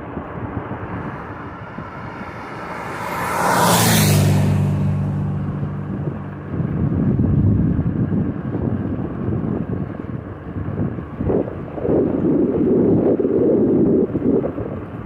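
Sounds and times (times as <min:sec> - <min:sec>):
vehicle engine passing: 0:00.0 - 0:12.4
wind buffeting microphone: 0:00.0 - 0:15.0.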